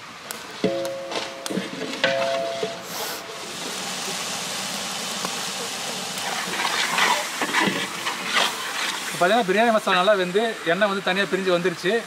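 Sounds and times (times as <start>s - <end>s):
masala sizzling in oil: 0.0s - 11.6s.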